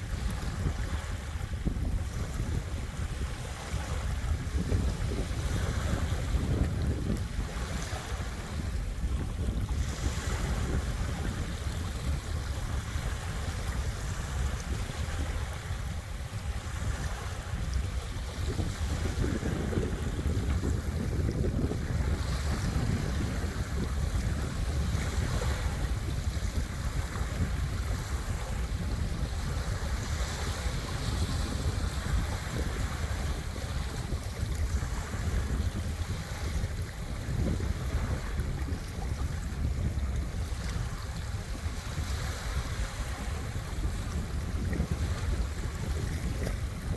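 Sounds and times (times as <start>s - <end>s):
small waves washing onto beach: 0.0s - 46.9s
wind buffeting microphone: 0.0s - 46.9s.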